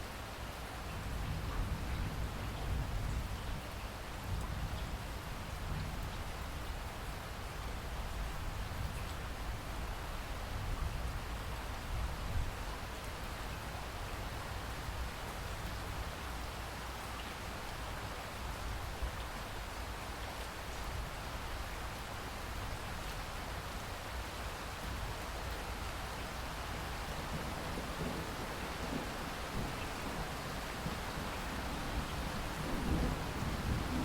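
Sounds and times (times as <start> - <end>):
steady rain hissing: 0.0 - 34.0.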